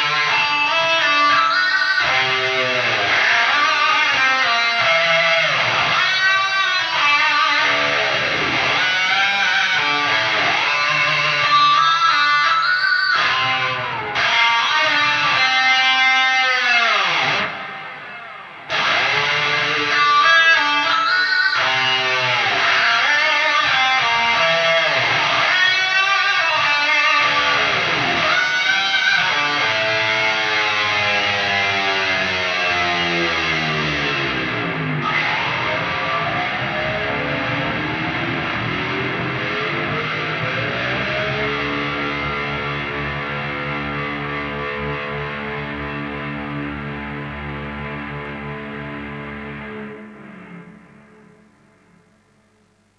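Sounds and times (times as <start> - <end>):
distorted electric guitar lead: 0.0 - 52.5.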